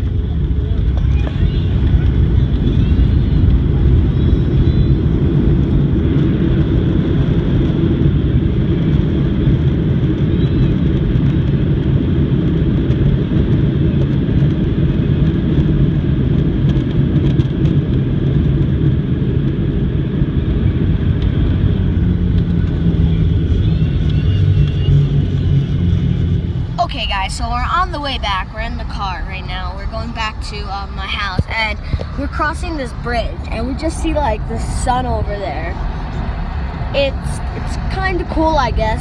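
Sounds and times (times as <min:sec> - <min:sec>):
vehicle rumble inside cabin: 0:00.0 - 0:39.0.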